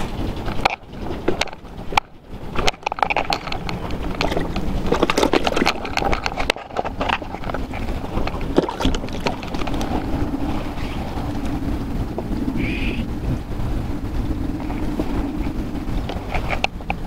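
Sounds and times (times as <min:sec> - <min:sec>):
low steady drone: 0:00.0 - 0:17.0
wind buffeting microphone: 0:00.0 - 0:17.0.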